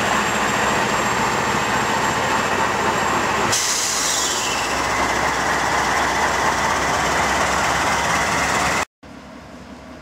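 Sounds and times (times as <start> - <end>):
diesel locomotive passing: 0.0 - 10.0.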